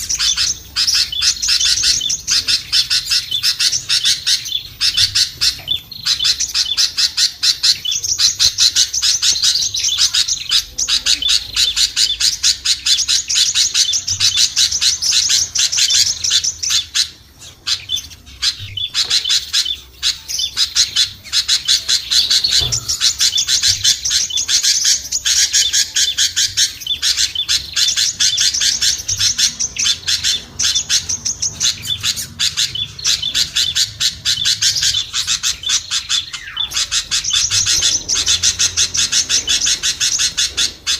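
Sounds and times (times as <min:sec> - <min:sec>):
small songbirds chattering and chirping: 0:00.0 - 0:40.9.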